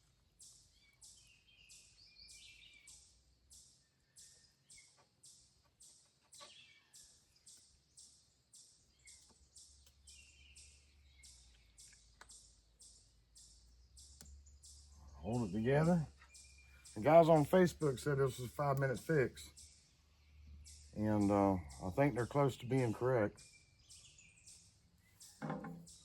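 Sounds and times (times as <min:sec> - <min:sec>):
faint high pulsing chirping: 0:00.0 - 0:26.0.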